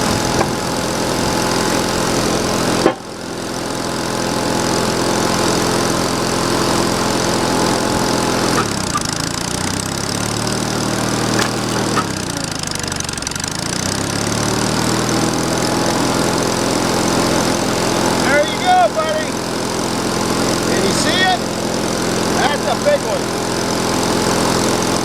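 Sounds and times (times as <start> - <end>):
sawmill engine running: 0.0 - 25.0.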